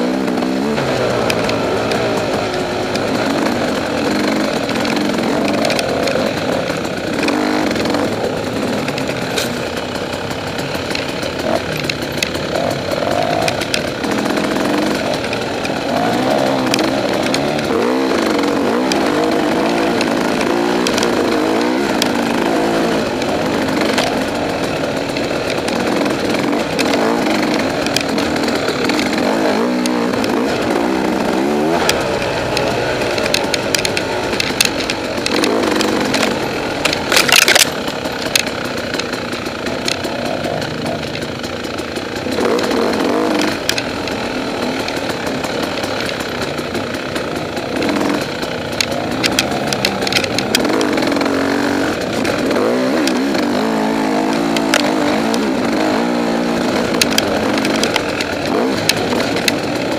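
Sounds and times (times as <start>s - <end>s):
bike knocks and rattles: 0.0s - 59.9s
dirt bike engine revving: 0.0s - 59.9s.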